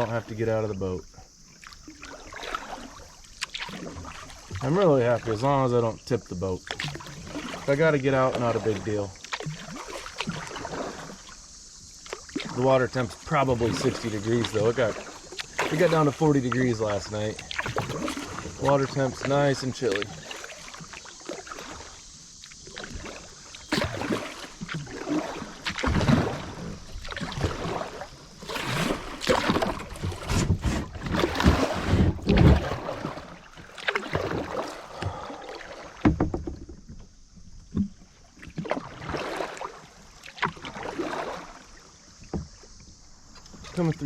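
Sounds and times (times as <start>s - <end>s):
paddle strokes splashing water: 0.0s - 44.0s.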